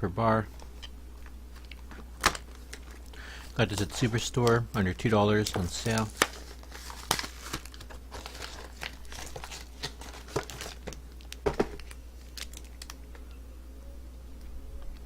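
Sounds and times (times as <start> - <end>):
plastic wrapper crinkling: 0.6 - 13.0.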